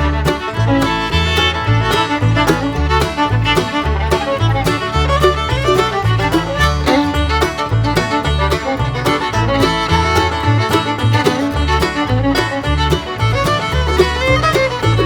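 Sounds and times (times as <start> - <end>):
upbeat bluegrass music: 0.0 - 15.0.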